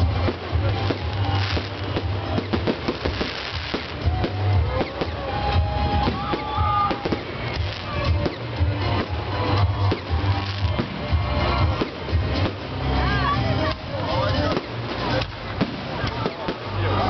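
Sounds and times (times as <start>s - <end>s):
fireworks bangs and crackles: 0.0s - 17.0s
music with pulsing bass beat: 0.0s - 17.0s.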